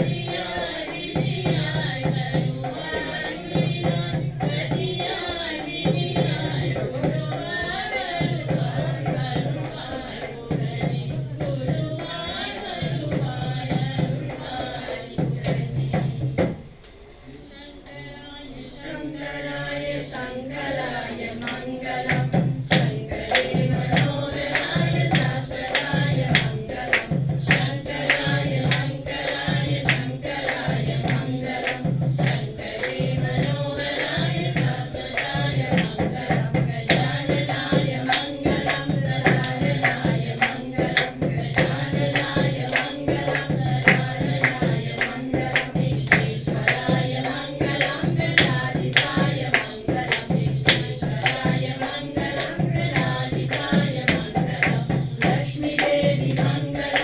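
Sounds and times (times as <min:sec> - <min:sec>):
sharp percussion strikes: 0:00.0 - 0:16.8, 0:19.3 - 0:57.0
steady drum beat: 0:00.0 - 0:16.8, 0:19.2 - 0:57.0
voices singing devotional music: 0:00.0 - 0:57.0.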